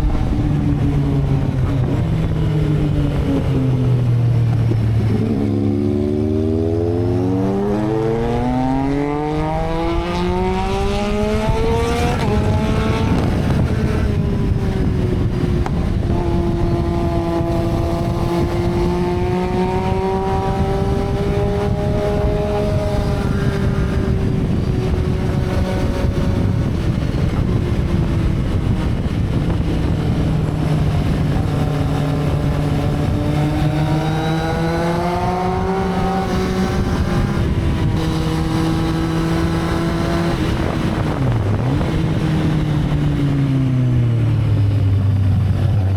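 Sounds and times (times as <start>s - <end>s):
constant rushing noise: 0.0s - 45.9s
motorcycle engine: 0.0s - 45.9s.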